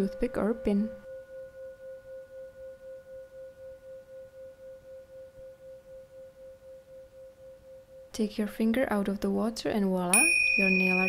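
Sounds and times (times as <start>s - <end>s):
pulsing soft pure tone: 0.0s - 8.2s, 10.2s - 11.0s.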